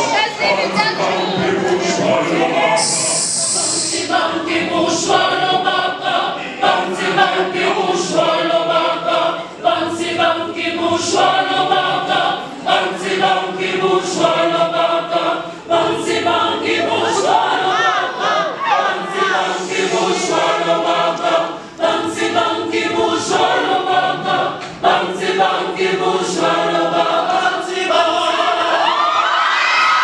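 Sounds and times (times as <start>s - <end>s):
mixed choir singing in harmony: 0.0s - 30.0s.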